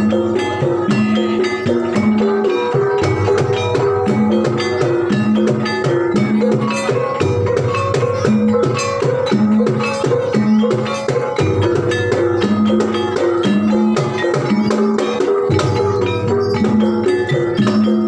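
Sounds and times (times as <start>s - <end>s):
hand drum strokes: 0.0s - 18.0s
tuned mallet percussion: 0.0s - 18.0s.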